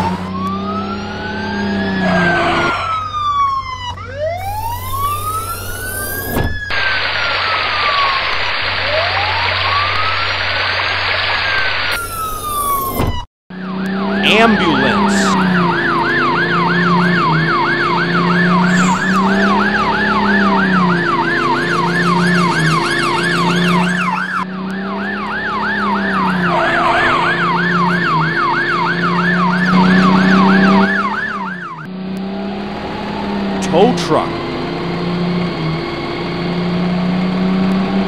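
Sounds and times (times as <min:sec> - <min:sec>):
ambulance siren yelping: 0:00.0 - 0:31.9.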